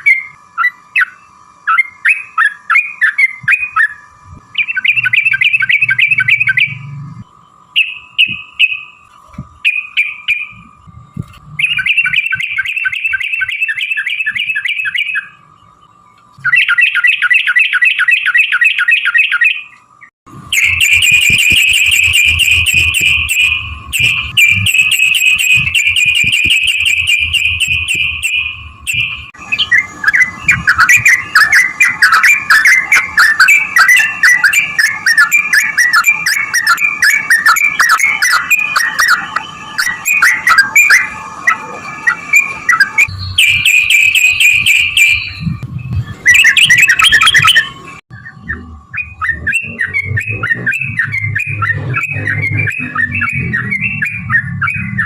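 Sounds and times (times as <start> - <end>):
bird singing rattling trills: 0.0 - 55.0.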